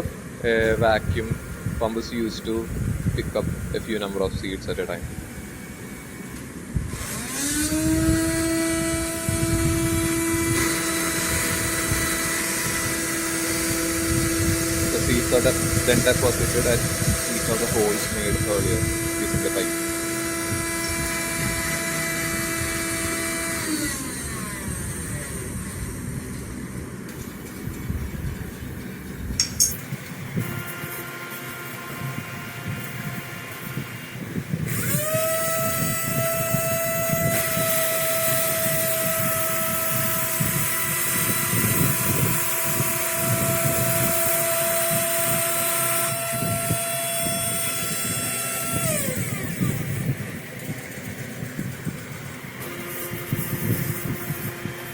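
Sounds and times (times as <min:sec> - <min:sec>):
noisy hum: 0:00.0 - 0:54.9
small electric motor whining: 0:00.0 - 0:54.9.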